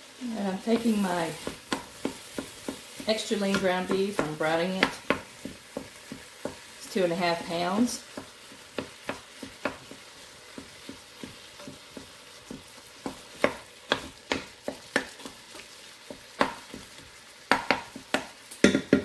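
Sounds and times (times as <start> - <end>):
meat sizzling: 0.0 - 19.0.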